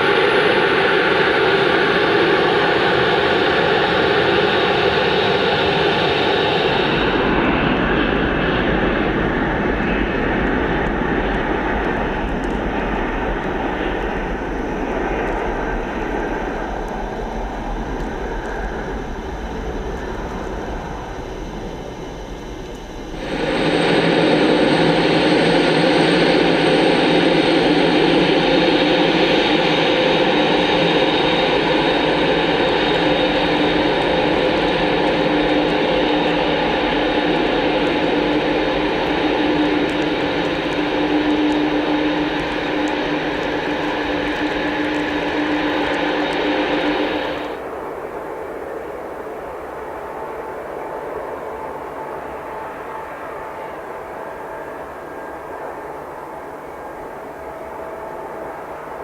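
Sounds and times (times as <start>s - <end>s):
close jet engine whine: 0.0s - 59.0s
distant jet engines rushing: 0.0s - 59.0s.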